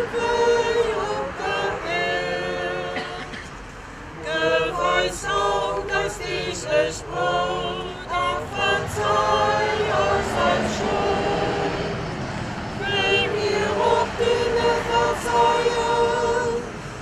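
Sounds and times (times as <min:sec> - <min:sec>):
group singing unaccompanied: 0:00.0 - 0:17.0.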